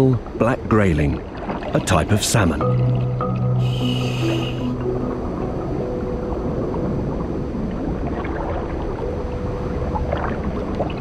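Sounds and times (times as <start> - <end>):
faint underwater clicks and gurgles: 0.0 - 11.0
underwater rumble and hiss: 0.0 - 11.0.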